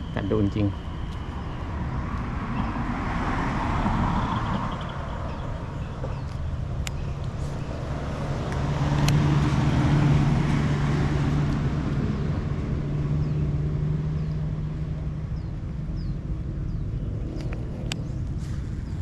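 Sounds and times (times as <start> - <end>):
vehicle engine passing by: 1.4 - 6.3, 7.2 - 19.0.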